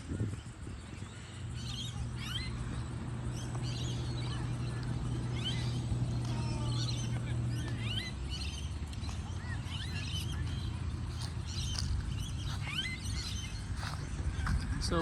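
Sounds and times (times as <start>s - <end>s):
birds chirping and calling: 0.0s - 15.0s
low steady hum: 0.0s - 15.0s.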